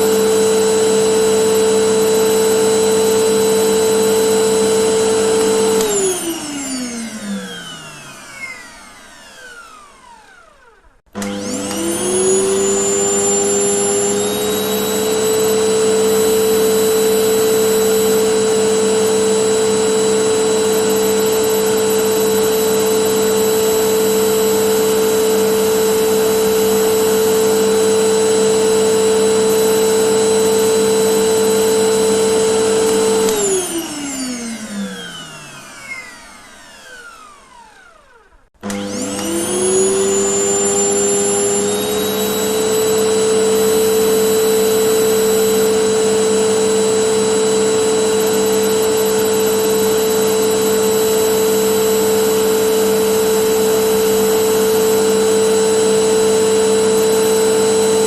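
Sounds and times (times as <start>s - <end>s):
vacuum cleaner motor: 0.0s - 58.0s.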